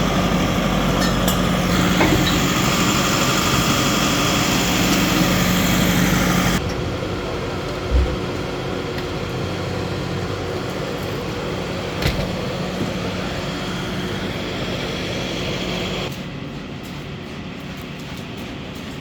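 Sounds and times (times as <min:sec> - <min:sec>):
heavy engine running: 0:00.0 - 0:19.0.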